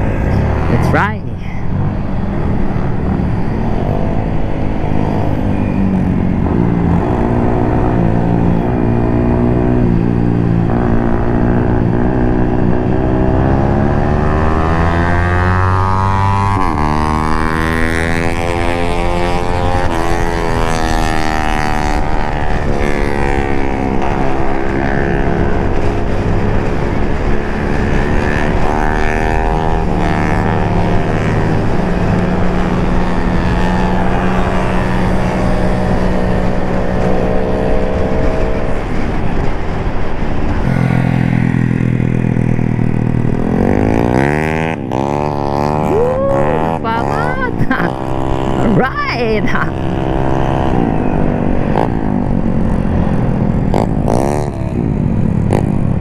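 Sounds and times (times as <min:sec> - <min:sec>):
scooter engines racing: 0:00.0 - 0:56.0.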